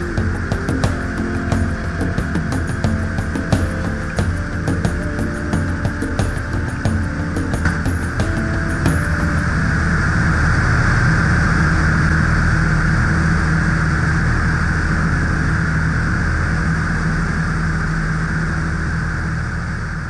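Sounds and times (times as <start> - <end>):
airplane engine and propeller drone: 0.0 - 20.0.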